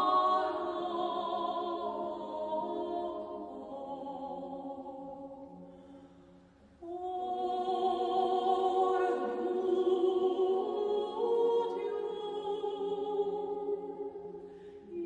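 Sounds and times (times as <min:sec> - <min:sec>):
person singing a hymn unaccompanied: 0:00.0 - 0:15.0.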